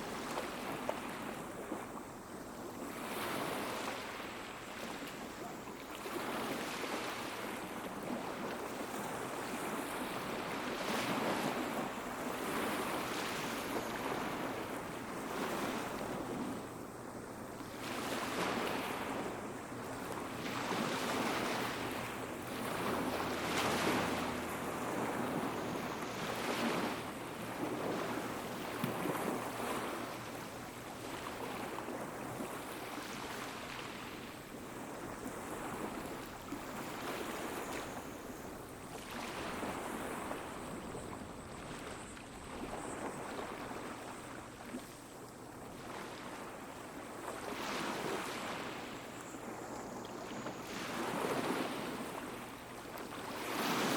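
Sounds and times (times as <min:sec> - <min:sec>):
small waves washing onto beach: 0:00.0 - 0:53.9.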